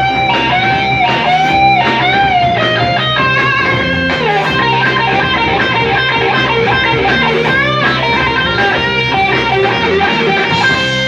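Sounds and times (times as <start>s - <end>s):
electric guitar bent notes: 0.0s - 11.0s
live rock band playing: 0.0s - 11.0s.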